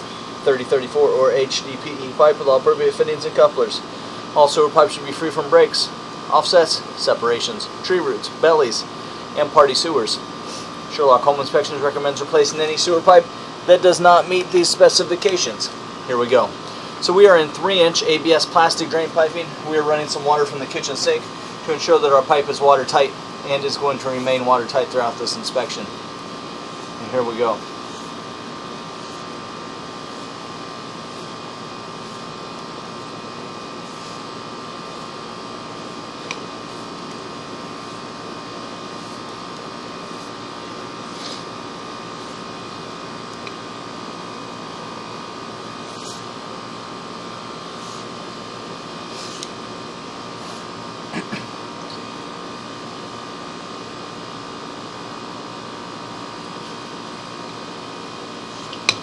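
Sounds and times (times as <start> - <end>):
steady electrical hum: 0.0 - 59.0.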